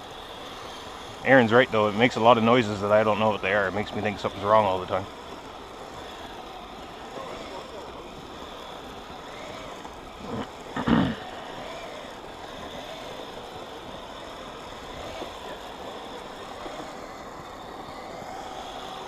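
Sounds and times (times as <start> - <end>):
toy tractor motor whine: 0.0 - 19.0.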